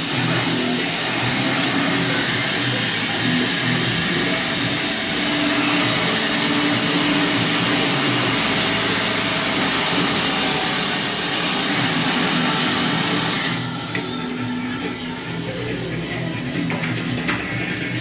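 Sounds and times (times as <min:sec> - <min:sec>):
diesel engine running loudly: 0:00.0 - 0:18.0.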